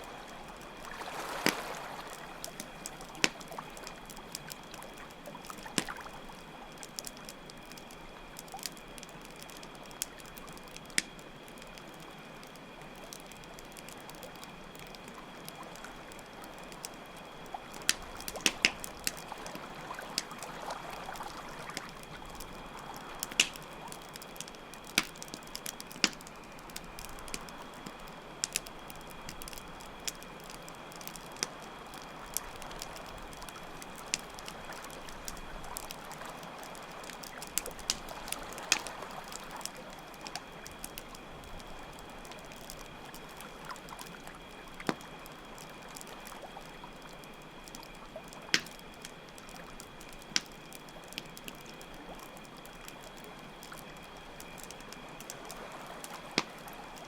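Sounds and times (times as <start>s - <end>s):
campfire crackling and popping: 0.0s - 57.0s
crickets chirping: 0.0s - 57.0s
trickling stream: 0.0s - 57.0s.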